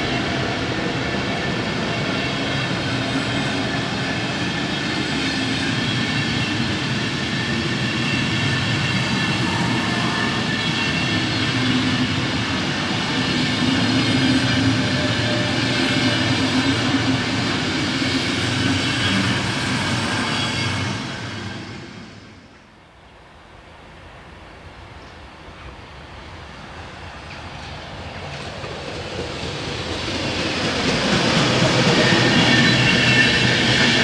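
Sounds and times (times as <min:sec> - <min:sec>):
train wheels rumbling on rails: 0:00.0 - 0:22.7, 0:25.0 - 0:34.0.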